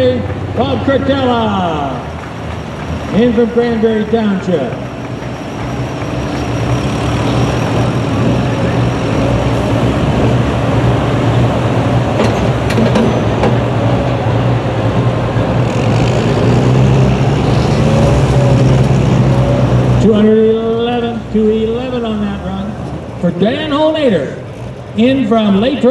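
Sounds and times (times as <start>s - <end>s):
pickup truck engine running: 0.0s - 25.9s.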